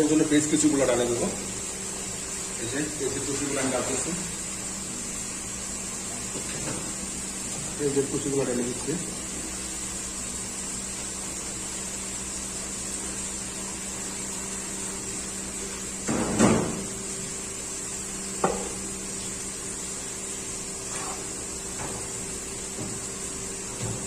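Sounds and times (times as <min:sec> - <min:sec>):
appliance or fan hum: 0:00.0 - 0:24.0.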